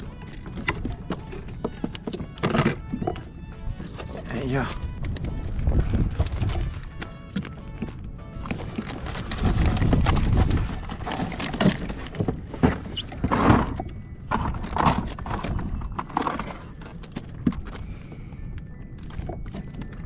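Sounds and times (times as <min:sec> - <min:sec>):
fish flapping against plastic hull: 0:00.0 - 0:18.0.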